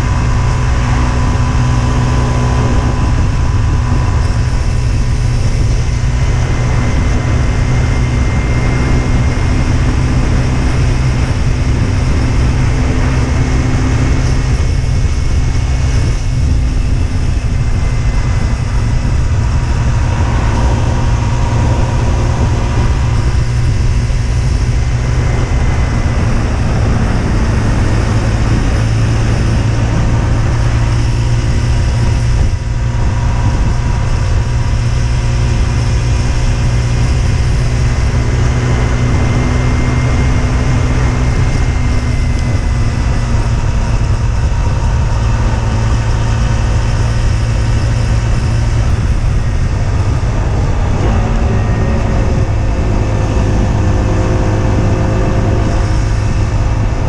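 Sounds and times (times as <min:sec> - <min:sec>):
motorcycle engine running: 0:00.0 - 0:57.0
wind rushing on microphone: 0:00.0 - 0:57.0.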